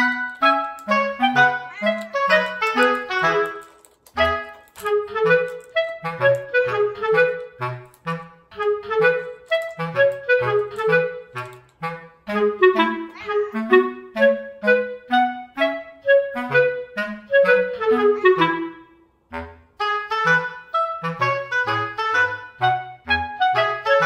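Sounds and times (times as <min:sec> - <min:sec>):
lilting melody with bass line: 0:00.0 - 0:24.0.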